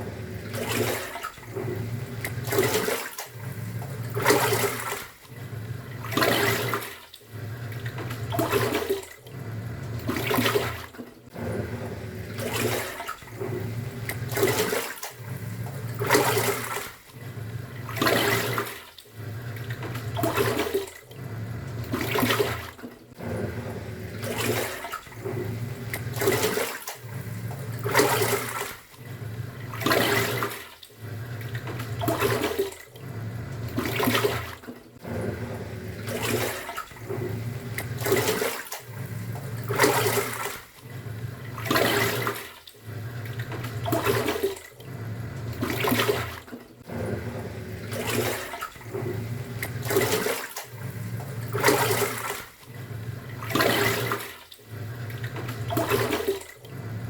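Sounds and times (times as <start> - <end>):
washing machine motor humming: 0.0 - 57.0
water and laundry swishing: 0.0 - 57.0.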